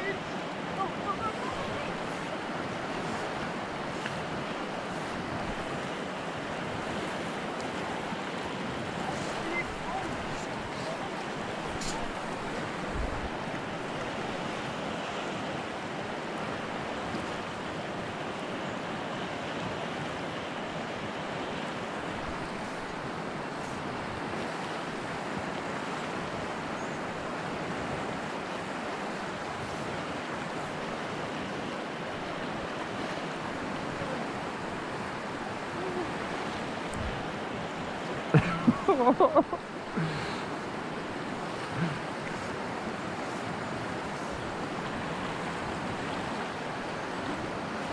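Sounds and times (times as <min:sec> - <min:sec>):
river current rushing: 0:00.0 - 0:47.9.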